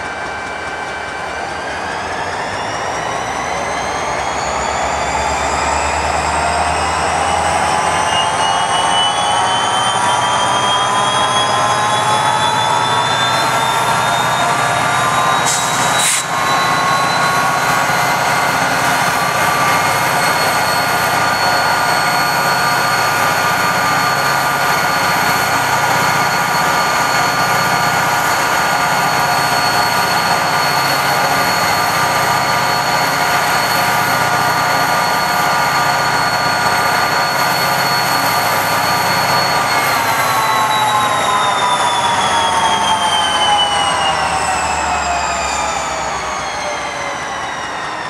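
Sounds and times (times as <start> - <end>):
diesel locomotive engine: 0.0 - 48.0
turbocharger whine: 0.0 - 48.0.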